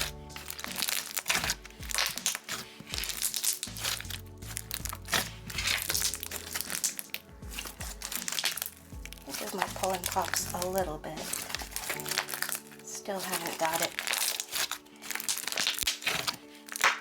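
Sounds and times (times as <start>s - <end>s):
background music: 0.0s - 17.0s
slime crackling and popping: 0.0s - 17.0s.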